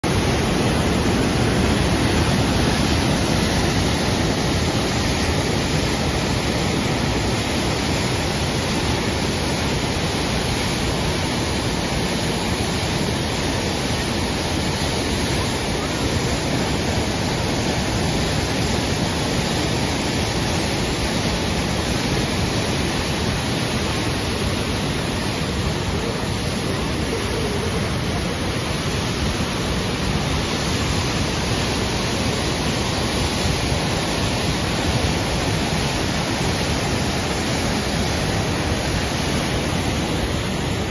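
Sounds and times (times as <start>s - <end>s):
water rushing over dam spillway: 0.0s - 40.9s.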